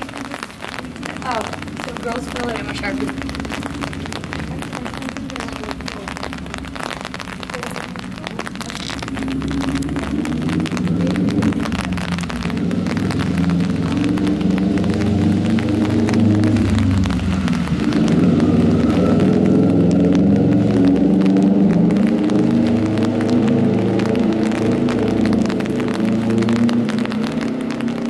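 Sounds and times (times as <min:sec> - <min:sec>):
rain on an umbrella: 0:00.0 - 0:28.0.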